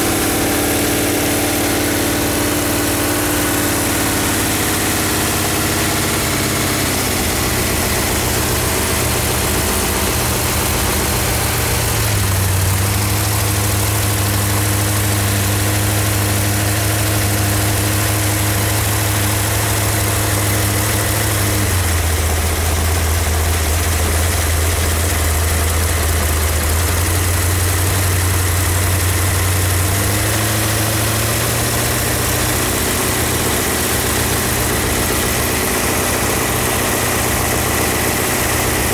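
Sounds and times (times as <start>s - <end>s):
boat engine revving: 0.0s - 38.9s.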